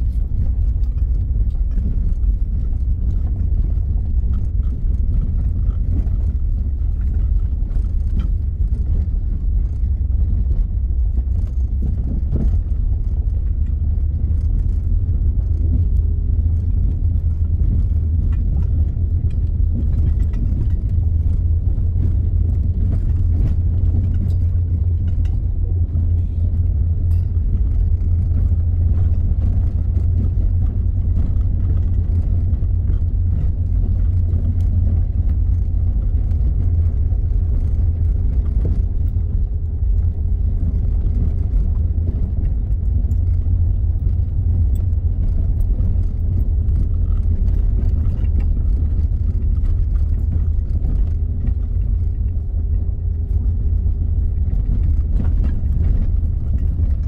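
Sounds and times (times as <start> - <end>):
car driving on stony dirt track: 0.0 - 57.0
faint ticks and rattles: 0.0 - 57.0.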